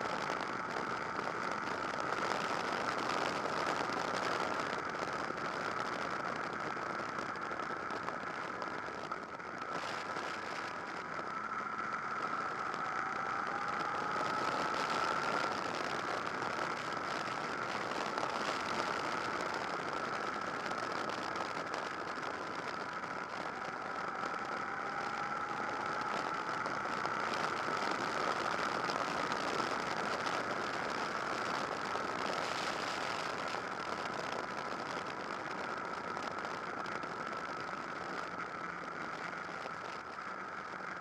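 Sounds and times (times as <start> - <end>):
motorcycle engine running: 0.0 - 41.0
wind and road rush: 0.0 - 41.0.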